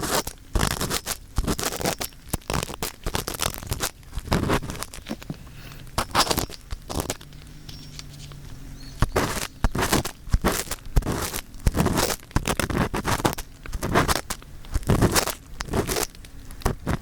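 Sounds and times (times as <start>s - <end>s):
earpick scraping against microphone: 0.0s - 17.0s.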